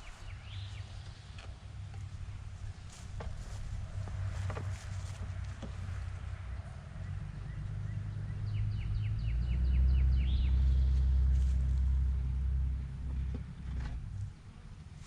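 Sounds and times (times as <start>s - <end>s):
songbird singing: 0.0s - 13.8s.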